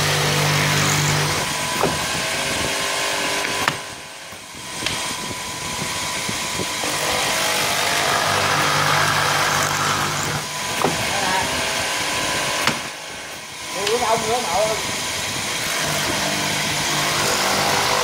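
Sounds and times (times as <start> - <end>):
drilling machine boring into wood: 0.0 - 18.0.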